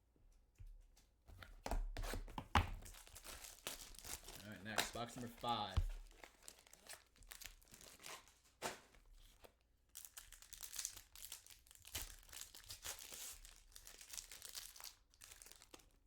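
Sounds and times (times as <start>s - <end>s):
plastic wrapping crinkling: 2.7s - 16.0s
plastic wrapping ripping: 2.7s - 16.0s.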